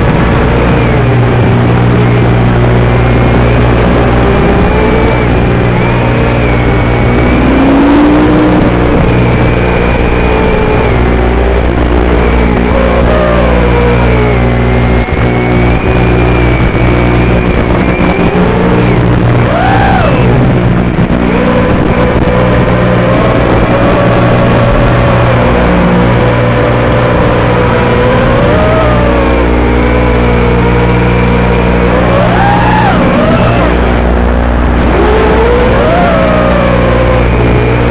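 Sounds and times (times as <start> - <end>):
buzzing interference noise: 0.0 - 37.9
wavering whining tones: 0.0 - 37.9.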